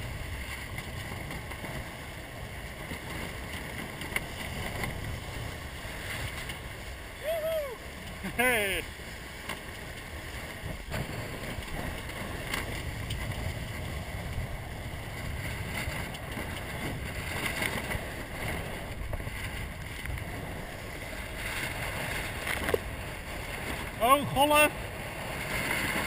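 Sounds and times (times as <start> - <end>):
water splashing along hull: 0.0 - 26.0
wind on microphone: 0.0 - 26.0.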